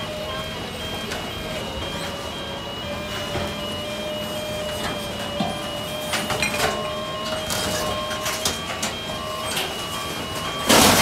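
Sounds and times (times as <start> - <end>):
repeating beeper: 0.0 - 11.0
truck engine and hydraulics whining: 0.0 - 11.0.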